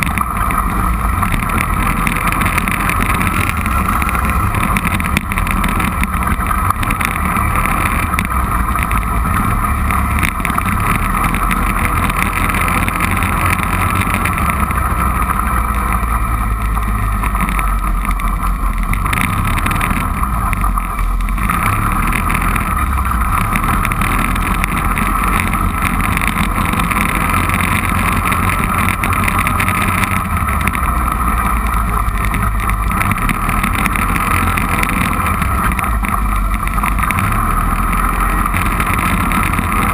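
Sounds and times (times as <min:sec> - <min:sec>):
atv engine drone: 0:00.0 - 0:39.9.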